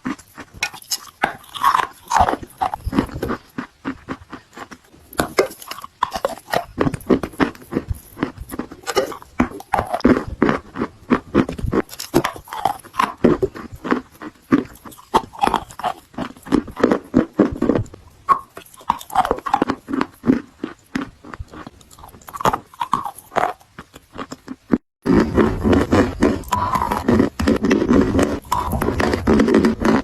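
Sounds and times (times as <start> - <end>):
crunching and chewing chalk: 0.0 - 30.0.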